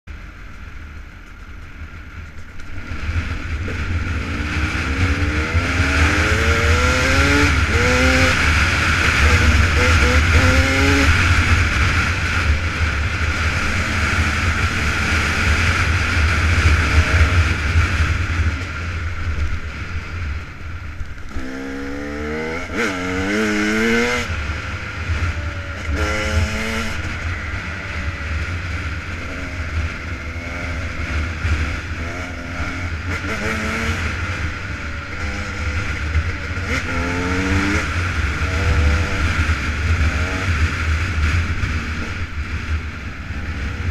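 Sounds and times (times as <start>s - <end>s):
two-stroke motorcycle engine revving: 2.8s - 20.6s, 21.2s - 43.9s.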